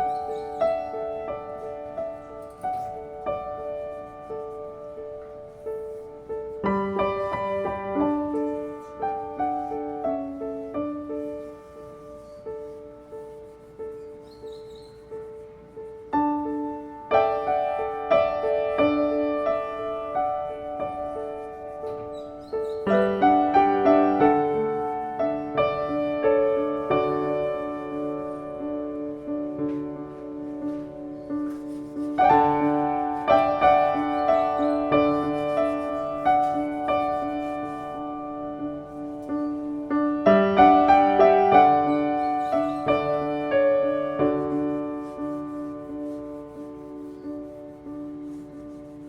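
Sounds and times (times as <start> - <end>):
soft piano music: 0.0 - 49.0.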